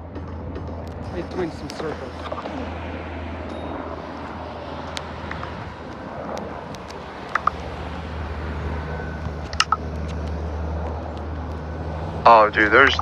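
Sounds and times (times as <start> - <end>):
helicopter rotors droning overhead: 0.0 - 13.0.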